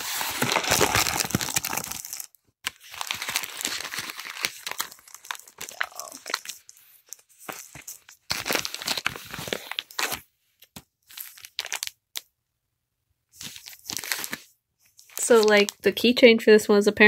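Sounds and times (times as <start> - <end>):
plastic and paper crinkling: 0.0 - 12.0, 13.4 - 16.0.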